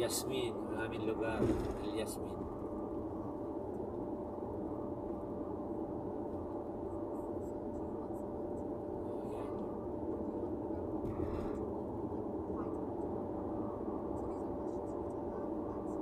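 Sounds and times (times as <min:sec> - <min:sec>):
car road and engine noise: 0:00.0 - 0:16.0
faint constant hum: 0:00.0 - 0:16.0.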